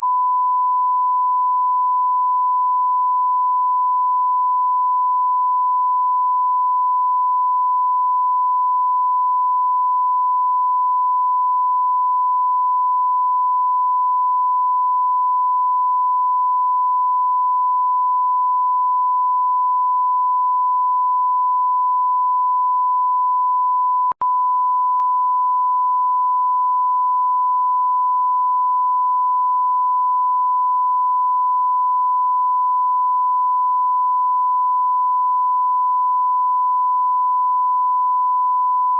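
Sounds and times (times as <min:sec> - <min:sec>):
censor bleep tone: 0:00.0 - 0:38.9.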